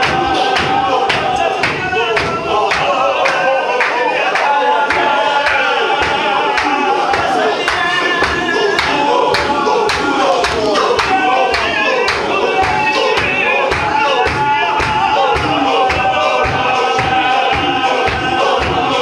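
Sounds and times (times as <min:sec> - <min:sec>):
men chanting in unison: 0:00.0 - 0:19.0
steady drum beat: 0:00.0 - 0:19.0.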